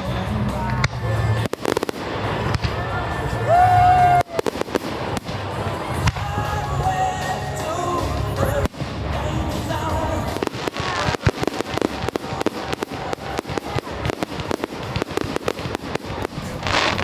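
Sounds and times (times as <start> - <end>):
fireworks bangs and crackles: 0.0 - 17.0
music playing: 0.0 - 17.0.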